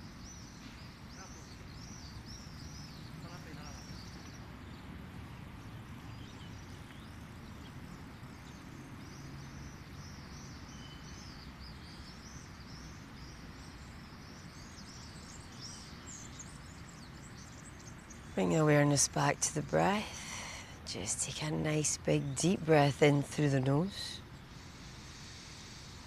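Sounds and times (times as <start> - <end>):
birds chirping: 0.0 - 26.0
low background noise: 0.0 - 26.0.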